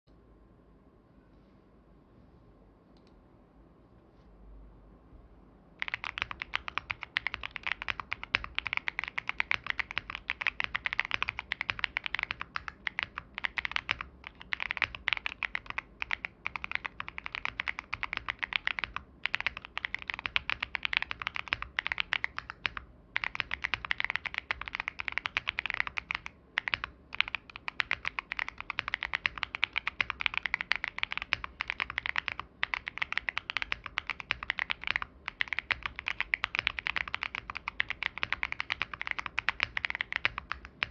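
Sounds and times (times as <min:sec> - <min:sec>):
fast mechanical keyboard typing: 0:05.8 - 0:40.9.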